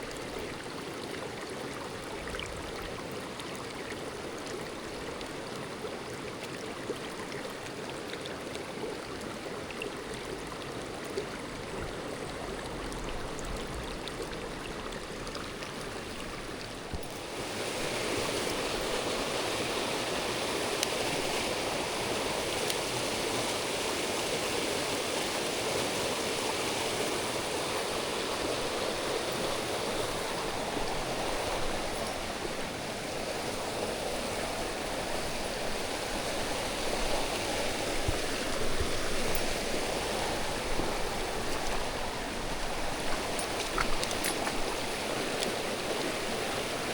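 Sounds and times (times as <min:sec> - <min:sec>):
stream water rushing over rocks: 0:00.0 - 0:46.9.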